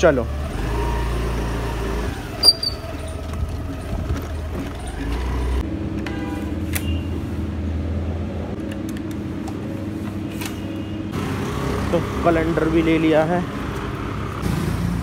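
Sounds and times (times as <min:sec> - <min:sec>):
scooter engine humming: 0:00.0 - 0:15.0.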